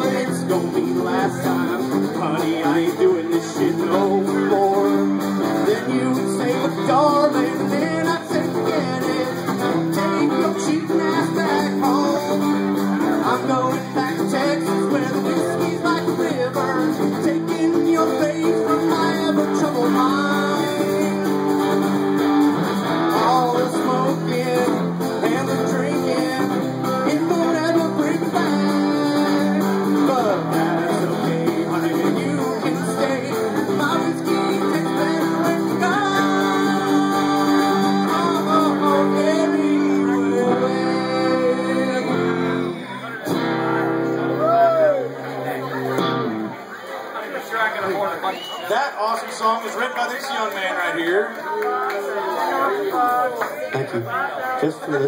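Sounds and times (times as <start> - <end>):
acoustic guitar strumming: 0.0 - 46.7
electric guitar playing: 0.0 - 46.8.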